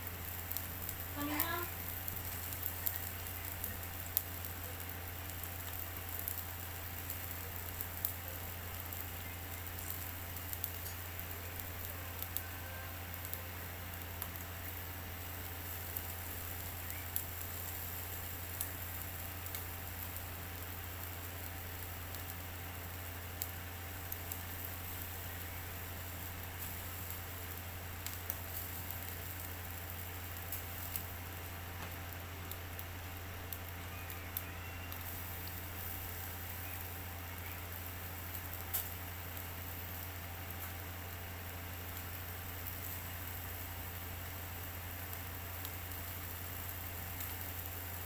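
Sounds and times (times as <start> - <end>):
coals popping: 0.0 - 48.0
meat sizzling over charcoal: 0.0 - 48.0
steady low hum: 0.0 - 48.0.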